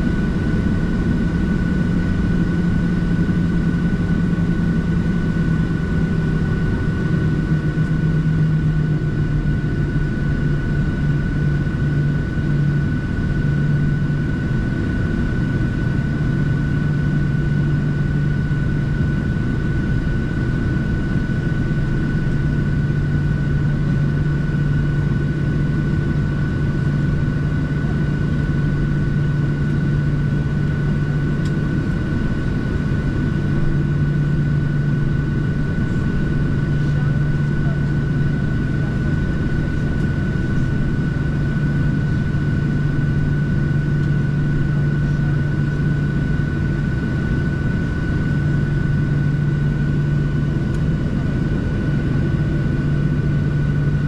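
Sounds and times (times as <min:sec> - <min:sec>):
jet engines humming in cabin: 0:00.0 - 0:54.0.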